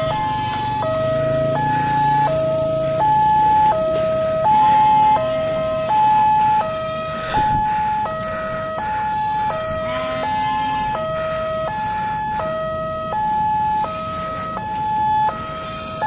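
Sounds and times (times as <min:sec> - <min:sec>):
two-tone level crossing alarm: 0:00.0 - 0:16.0.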